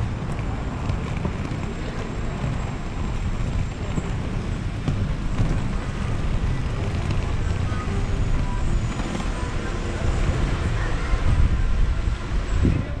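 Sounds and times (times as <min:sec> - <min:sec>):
skate wheels rolling on paving: 0:00.0 - 0:13.0
wind buffeting microphone: 0:00.0 - 0:13.0.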